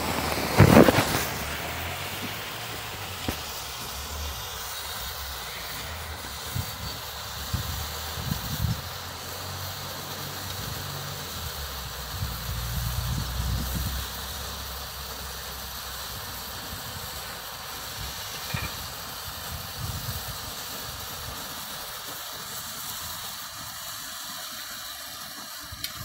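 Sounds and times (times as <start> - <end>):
sparklers fizzing: 0.0 - 26.0.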